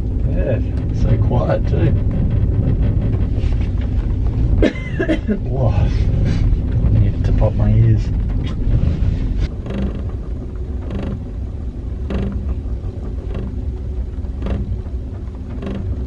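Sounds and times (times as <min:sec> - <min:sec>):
gondola cabin low rumble: 0:00.0 - 0:16.0.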